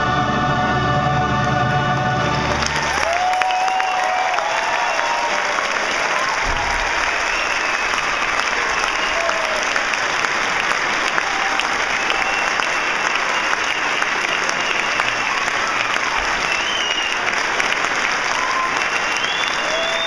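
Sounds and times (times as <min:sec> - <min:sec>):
audience applauding: 0:02.2 - 0:20.0.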